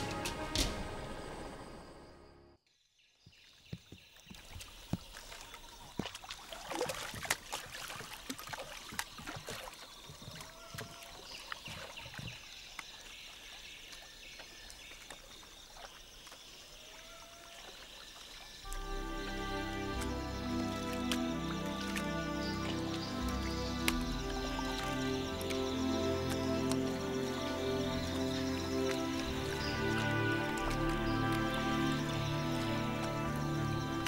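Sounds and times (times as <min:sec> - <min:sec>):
paddles splashing in water: 0:03.5 - 0:34.0.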